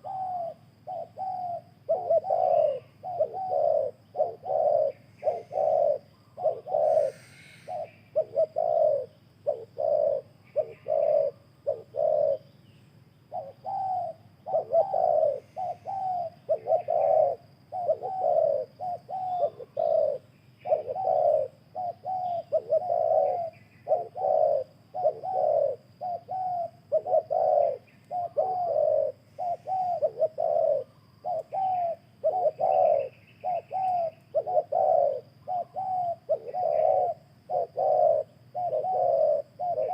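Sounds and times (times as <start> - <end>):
doves cooing: 0.0 - 12.6, 13.2 - 39.9.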